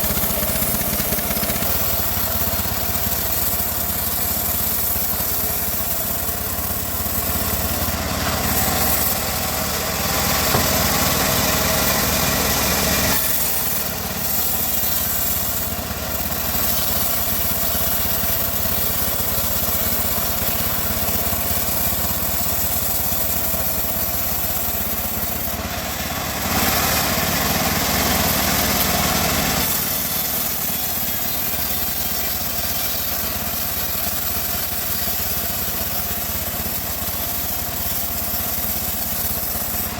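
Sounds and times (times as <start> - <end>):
bandsaw sawing wood: 0.0 - 39.9.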